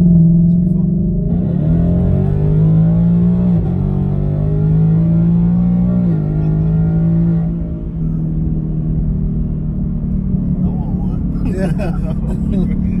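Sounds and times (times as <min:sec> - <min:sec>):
car engine drone inside cabin: 0:00.0 - 0:13.0.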